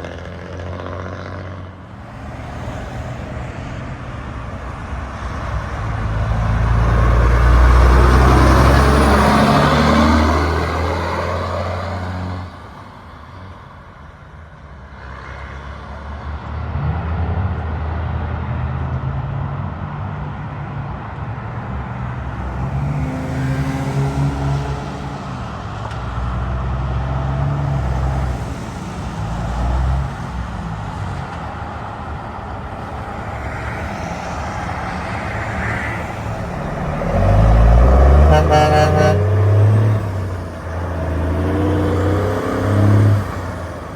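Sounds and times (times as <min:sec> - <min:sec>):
trucks and cars passing: 0:00.0 - 0:43.9.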